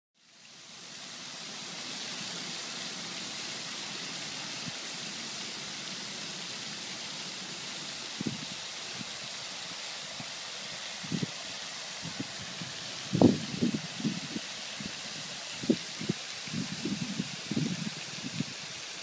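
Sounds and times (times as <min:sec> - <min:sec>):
fountain water hissing onto pond: 0:00.2 - 0:19.0.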